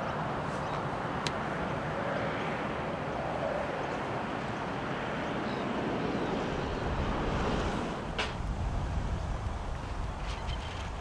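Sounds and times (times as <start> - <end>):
wind buffeting microphone: 1.0 - 11.0.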